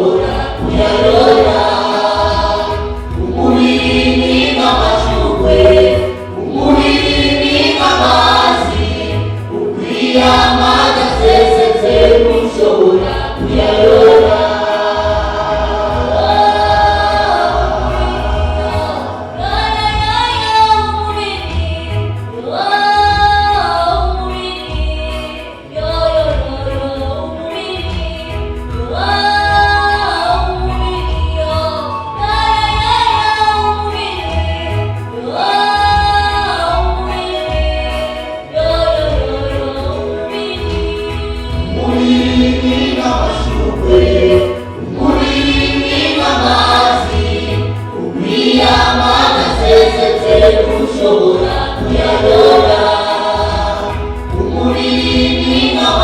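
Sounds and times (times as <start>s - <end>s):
choir singing gospel: 0.0s - 56.0s.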